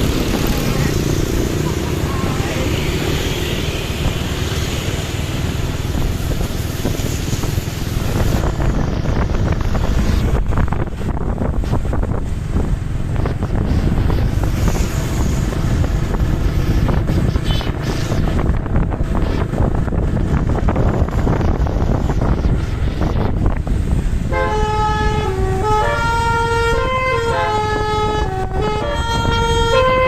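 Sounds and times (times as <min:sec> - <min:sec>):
vehicle road and engine noise: 0:00.0 - 0:30.0
wind buffeting microphone: 0:00.0 - 0:30.0.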